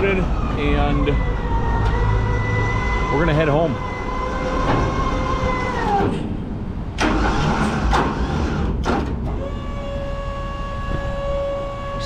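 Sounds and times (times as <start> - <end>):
truck hydraulic hoist whine: 0.0 - 12.0.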